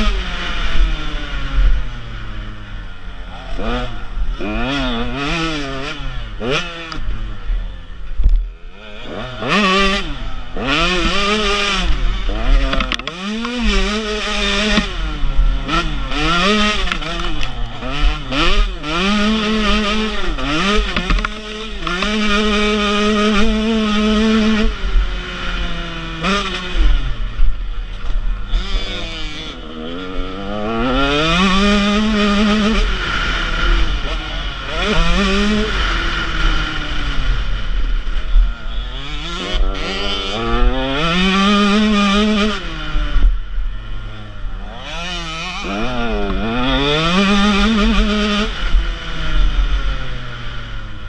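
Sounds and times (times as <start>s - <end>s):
motocross engine revving: 0.0s - 51.0s.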